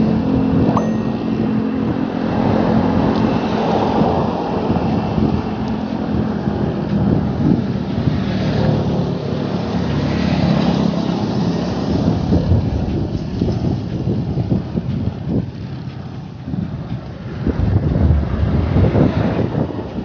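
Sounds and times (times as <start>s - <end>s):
road traffic: 0.0s - 20.0s
vehicle engine hum: 0.0s - 20.0s
wind buffeting microphone: 0.0s - 20.0s.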